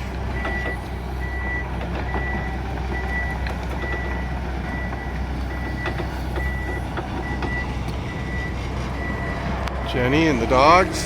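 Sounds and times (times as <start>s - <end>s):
earthmoving machine engine rumble: 0.0s - 11.0s
reversing alarm beeping: 0.3s - 10.0s.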